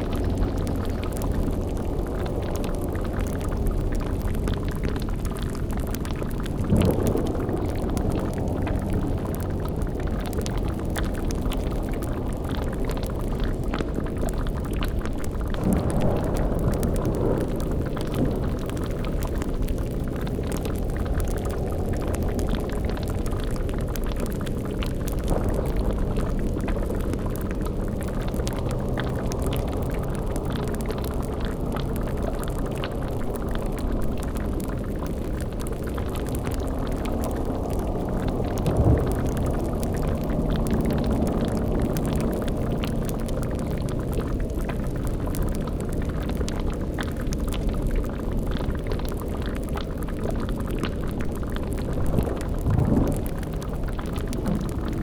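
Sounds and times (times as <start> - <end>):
bubbling and crackling: 0.0 - 55.0
low rumble: 0.0 - 55.0.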